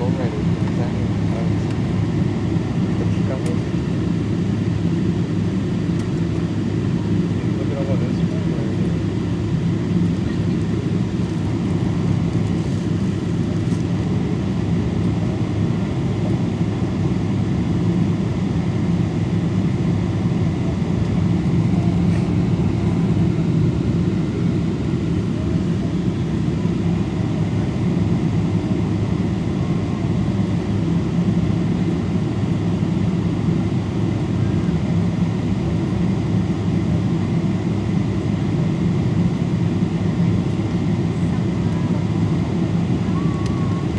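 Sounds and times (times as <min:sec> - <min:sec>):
airliner engine rumble: 0:00.0 - 0:43.9.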